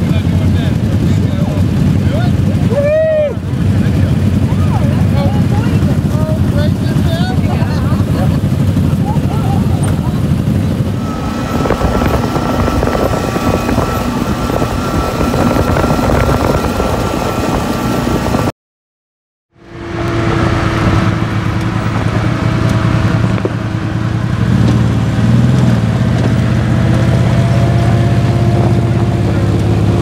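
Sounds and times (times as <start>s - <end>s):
engine on gravel road: 0.0s - 18.5s, 19.5s - 30.0s
engines rumbling nearby: 0.0s - 18.5s, 19.5s - 30.0s.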